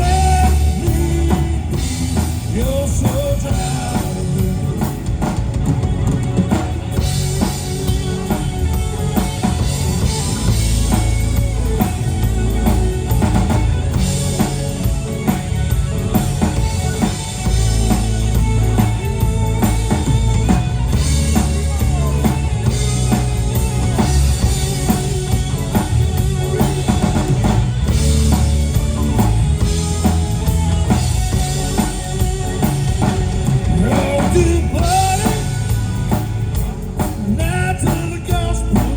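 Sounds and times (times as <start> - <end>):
bass drum and snare: 0.0 - 38.9
rock band playing instrumental: 0.0 - 38.9.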